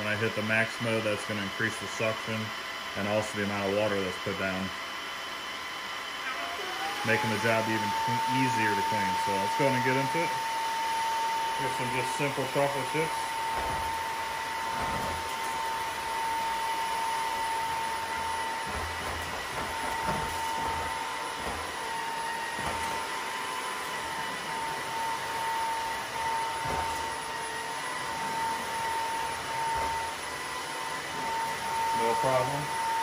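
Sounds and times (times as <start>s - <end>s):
vacuum mop suction hiss: 0.0s - 33.0s.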